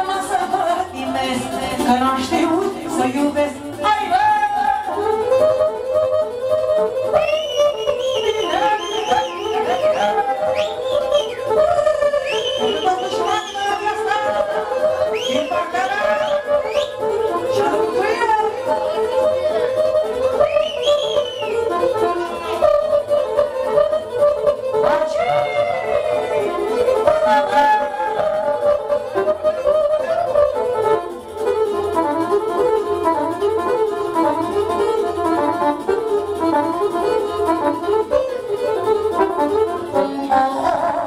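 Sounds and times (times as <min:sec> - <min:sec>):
electronic keyboard folk melody: 0:00.0 - 0:41.0.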